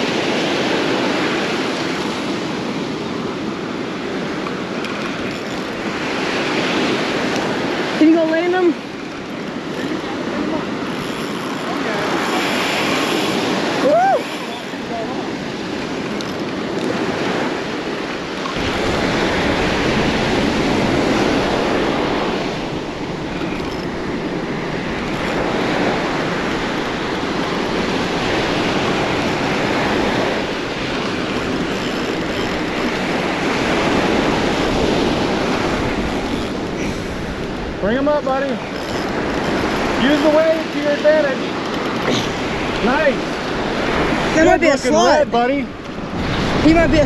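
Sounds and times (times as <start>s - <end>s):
surf breaking on beach: 0.0s - 47.0s
wind buffeting microphone: 0.0s - 47.0s.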